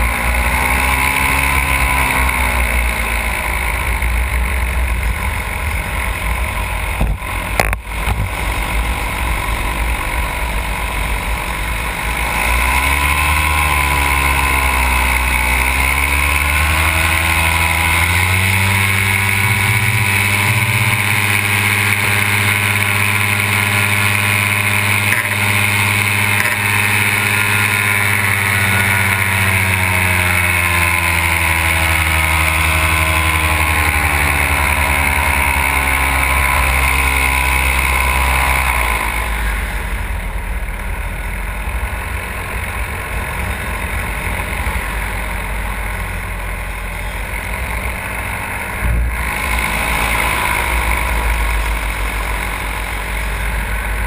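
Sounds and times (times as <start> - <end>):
engine and propeller running: 0.0 - 54.0.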